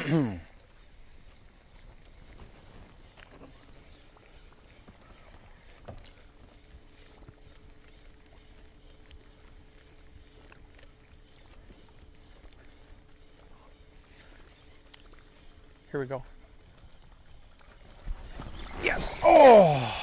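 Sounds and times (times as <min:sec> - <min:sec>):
faint steady hum: 0:00.0 - 0:20.0
faint water sounds: 0:00.0 - 0:20.0.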